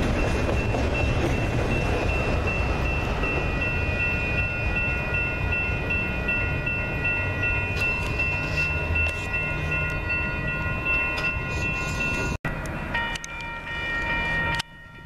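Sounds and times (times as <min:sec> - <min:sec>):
crossing bell ringing: 0:00.0 - 0:15.0.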